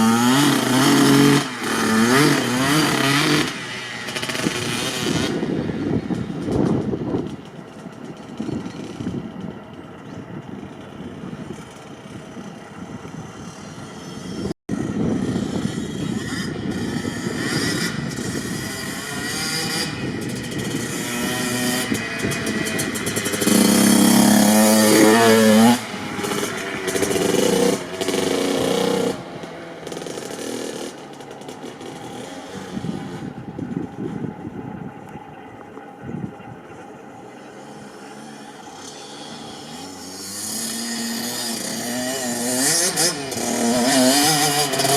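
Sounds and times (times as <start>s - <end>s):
dirt bike engine revving: 0.0s - 9.6s, 10.9s - 34.3s, 37.4s - 44.9s.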